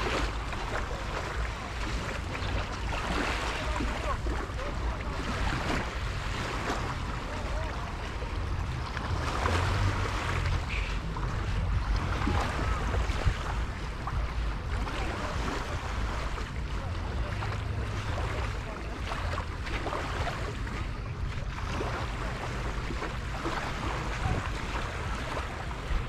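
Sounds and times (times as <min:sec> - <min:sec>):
small waves washing ashore: 0:00.0 - 0:26.0
wind buffeting microphone: 0:00.0 - 0:26.0.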